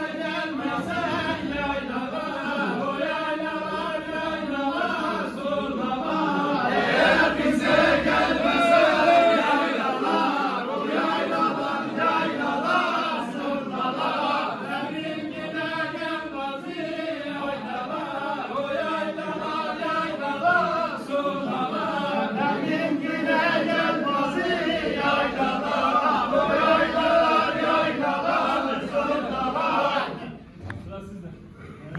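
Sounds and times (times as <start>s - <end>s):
men singing in chorus: 0.0s - 30.4s.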